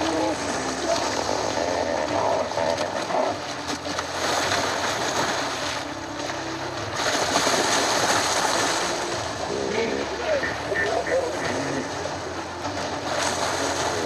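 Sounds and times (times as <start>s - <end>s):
water splashing and churning: 0.0s - 14.0s.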